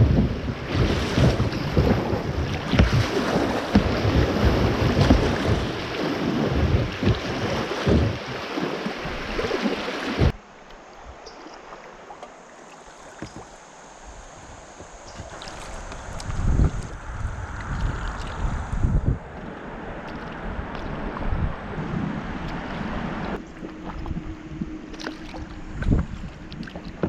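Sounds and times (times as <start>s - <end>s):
wind buffeting microphone: 0.0s - 10.4s, 14.2s - 27.0s
faint water sounds: 0.0s - 27.0s
kayak paddling: 0.0s - 27.0s.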